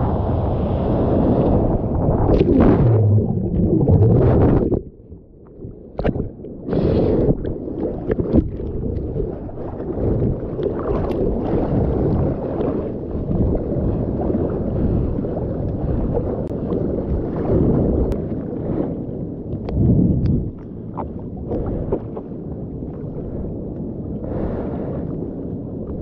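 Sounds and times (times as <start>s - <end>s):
water churning and splashing: 1.5s - 23.6s.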